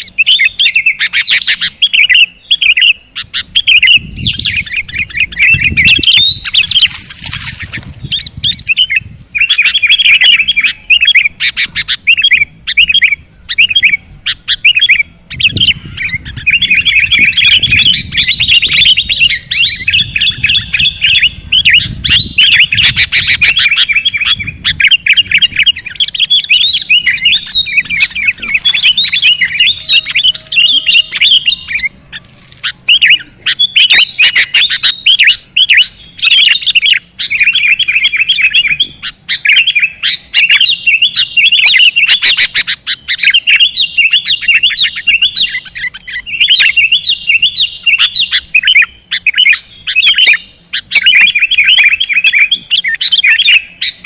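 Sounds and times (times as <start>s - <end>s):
bird chirping song: 0.0s - 54.0s.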